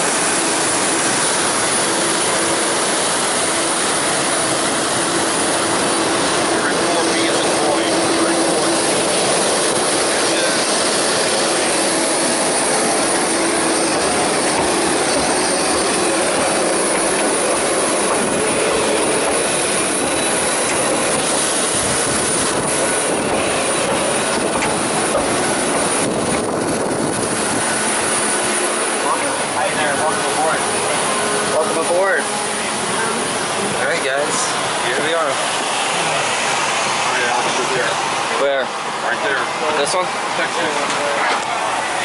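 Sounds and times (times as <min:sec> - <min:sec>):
jet engine rush and whine: 0:00.0 - 0:42.0.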